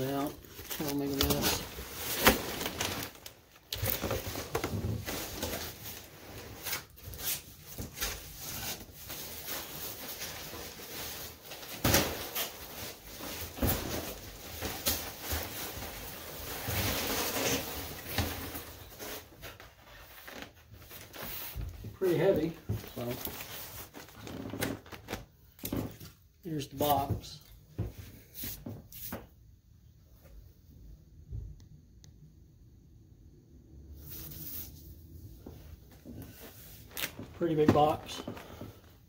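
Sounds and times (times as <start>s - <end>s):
cardboard and packing rustling: 0.0s - 29.3s, 34.1s - 39.0s.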